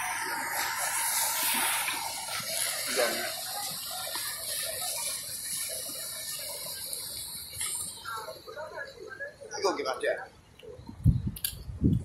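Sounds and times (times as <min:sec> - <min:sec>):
fire hose spraying water: 0:00.0 - 0:10.6.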